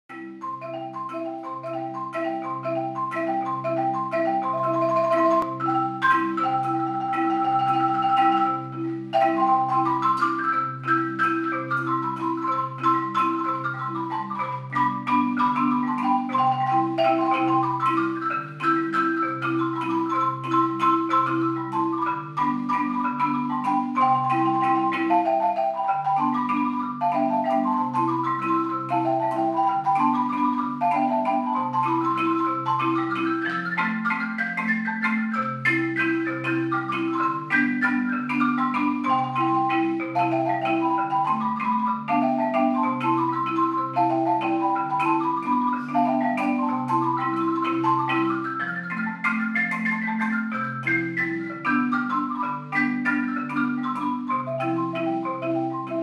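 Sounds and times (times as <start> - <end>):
marimba duo playing: 0.0 - 56.0.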